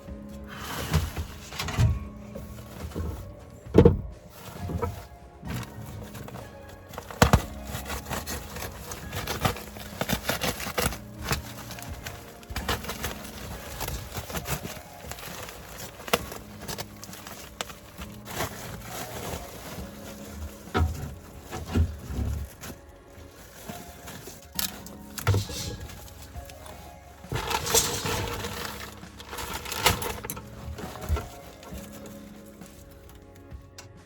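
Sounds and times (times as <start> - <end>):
background music: 0.0 - 34.0.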